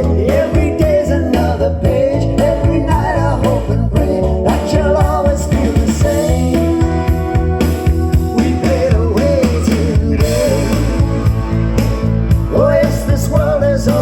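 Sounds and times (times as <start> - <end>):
song with singing guitar and drums: 0.0 - 14.0
sustained bass line: 0.0 - 14.0.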